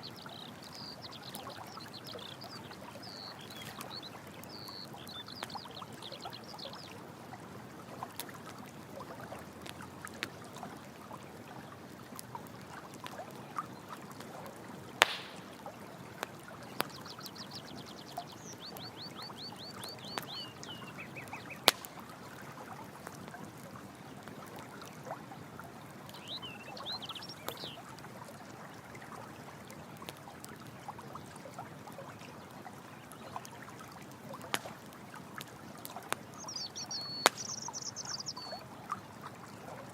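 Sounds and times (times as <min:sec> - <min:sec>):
running water: 0:00.0 - 0:39.9
campfire crackling and popping: 0:00.1 - 0:28.4, 0:29.0 - 0:31.0, 0:31.6 - 0:38.3.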